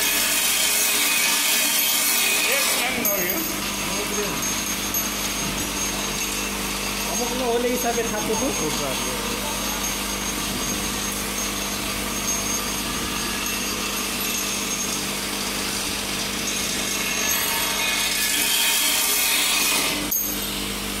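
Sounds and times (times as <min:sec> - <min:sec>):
vibratory bowl feeder buzzing: 0:00.0 - 0:21.0.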